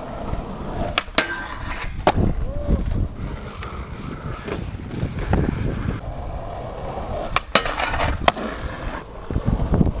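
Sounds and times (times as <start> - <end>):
skateboard clacks: 0.0 - 6.0, 6.7 - 10.0
skateboard rattling: 0.0 - 10.0
skateboard wheels rolling on asphalt: 0.0 - 10.0.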